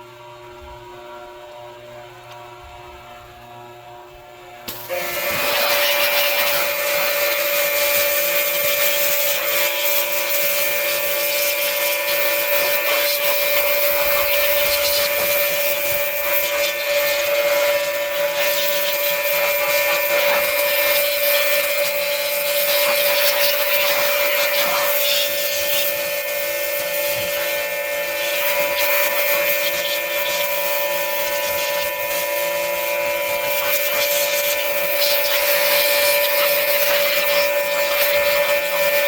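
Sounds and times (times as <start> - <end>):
pressure washer pump whine: 0.0 - 39.0
water jet hissing: 4.7 - 39.0.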